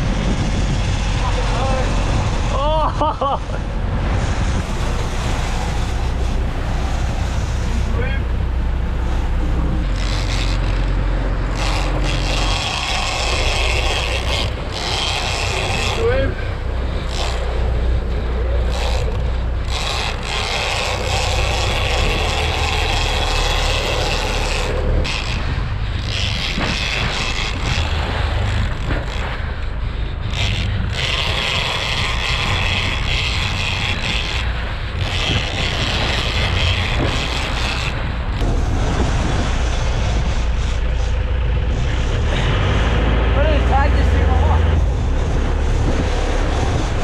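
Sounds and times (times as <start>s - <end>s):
boat engines rumbling: 0.0s - 47.0s
wake rushing and hissing: 0.0s - 47.0s.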